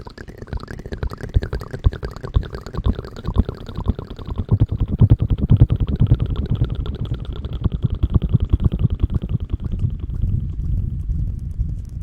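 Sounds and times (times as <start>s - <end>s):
crackling scratching against microphone: 0.0s - 12.0s.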